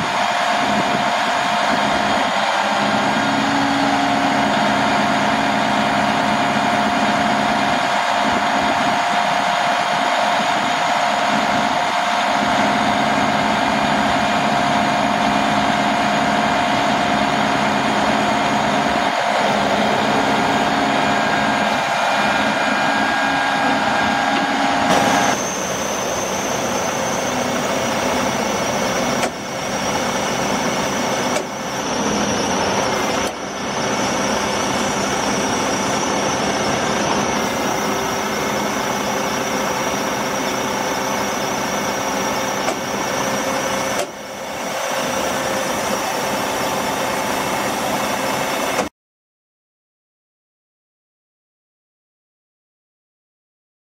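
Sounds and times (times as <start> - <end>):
diesel truck engine running: 0.0 - 48.9
hydraulic whine: 0.0 - 48.9.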